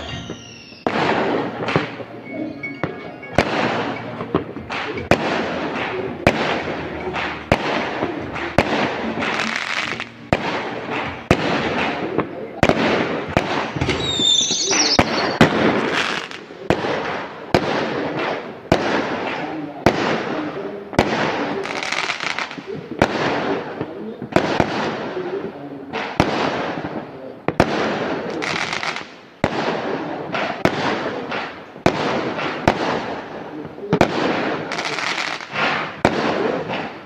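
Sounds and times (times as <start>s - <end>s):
fireworks bangs and crackle: 0.0s - 37.0s.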